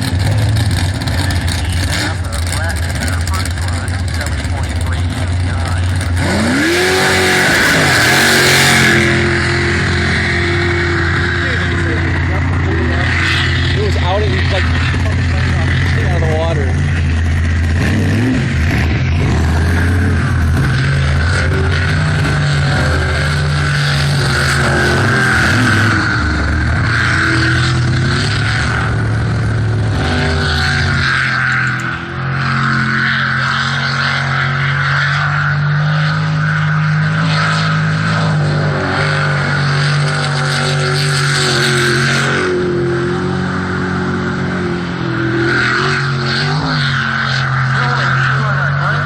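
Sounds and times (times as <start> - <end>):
boat engine at high revs: 0.0 - 49.0.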